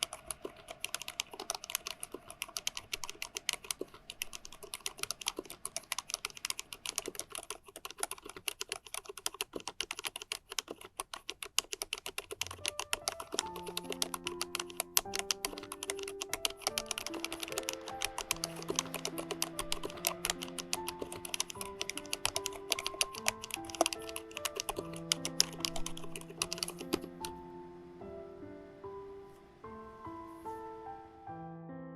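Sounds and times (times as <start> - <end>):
soft piano background music: 0.0 - 7.5, 11.8 - 31.9
fast typing on mechanical keyboard: 0.0 - 27.4.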